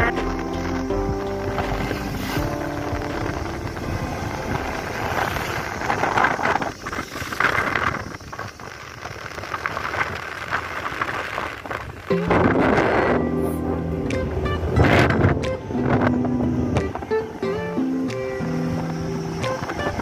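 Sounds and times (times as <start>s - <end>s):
vehicle road and wind noise: 0.0s - 20.0s.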